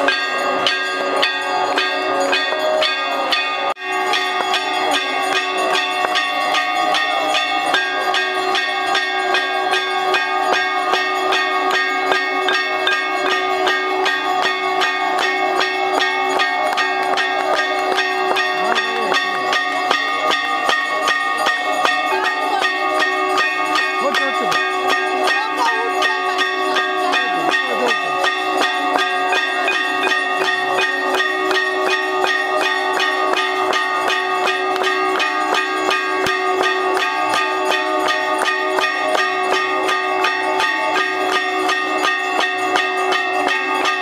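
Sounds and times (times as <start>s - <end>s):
temple bells clanging: 0.0s - 44.0s.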